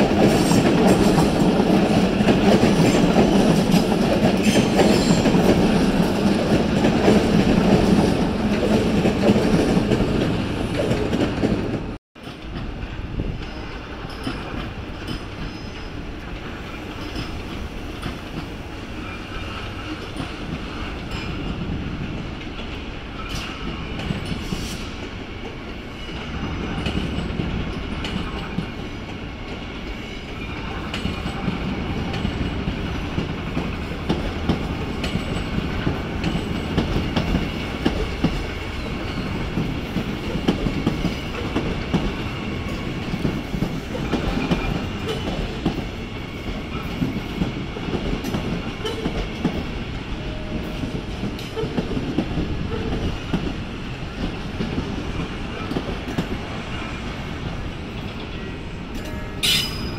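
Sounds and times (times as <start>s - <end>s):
train rumbling on tracks: 0.0s - 59.9s.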